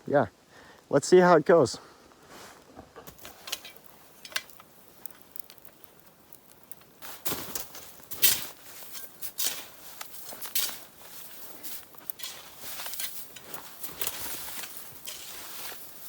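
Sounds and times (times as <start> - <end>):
footsteps crunching in snow: 2.2 - 16.0.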